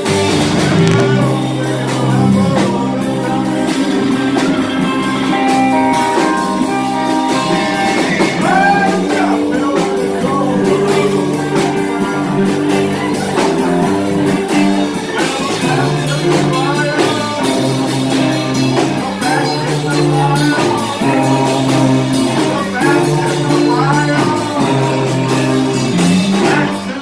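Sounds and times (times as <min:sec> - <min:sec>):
drum kit beat: 0:00.0 - 0:27.0
electric bass: 0:00.0 - 0:27.0
electric guitar: 0:00.0 - 0:27.0.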